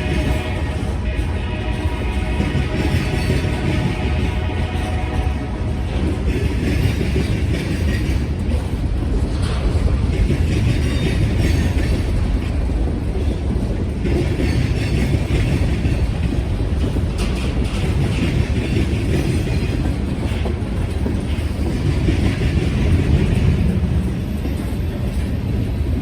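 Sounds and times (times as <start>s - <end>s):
clickety-clack over rail joints: 0.0s - 26.0s
train wheels rumbling on rails: 0.0s - 26.0s.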